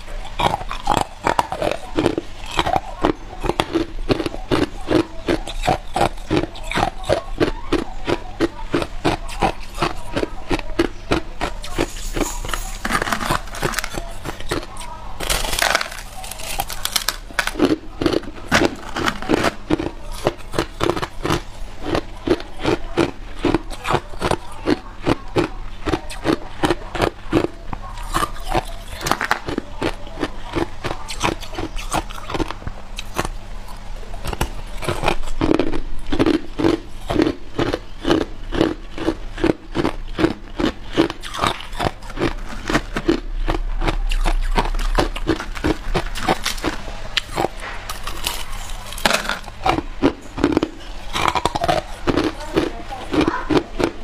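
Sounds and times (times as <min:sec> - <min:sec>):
chewing crushed ice: 0:00.0 - 0:54.0.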